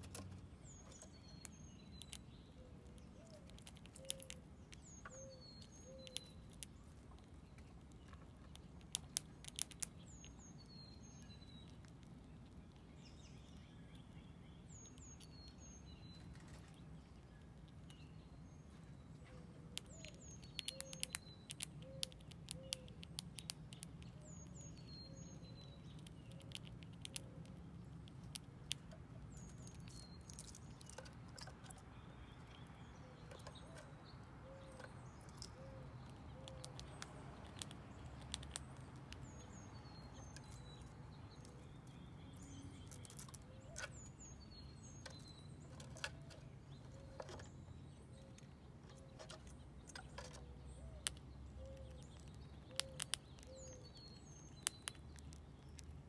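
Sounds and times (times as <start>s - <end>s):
small birds chirping: 0.0s - 56.0s
squirrel eating corn clicks: 0.0s - 56.0s.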